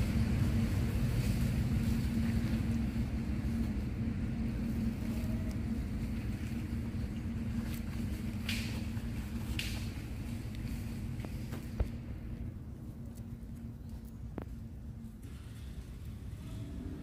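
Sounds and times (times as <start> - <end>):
motor running with low rumble: 0.0 - 17.0.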